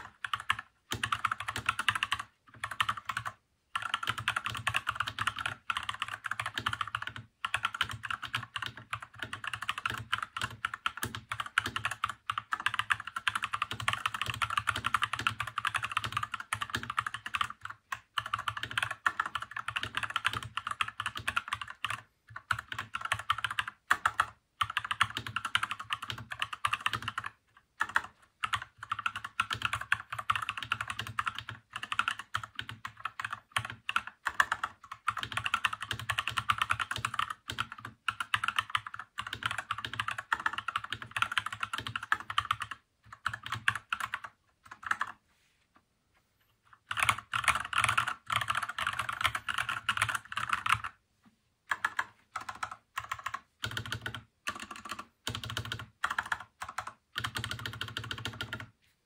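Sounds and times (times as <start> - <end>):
mechanical keyboard typing: 0.0 - 45.2, 46.7 - 51.0, 51.7 - 58.8.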